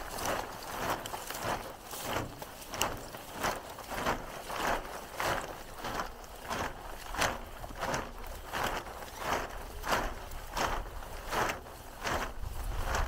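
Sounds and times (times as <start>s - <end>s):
tubing rustling through straw: 0.0s - 13.0s.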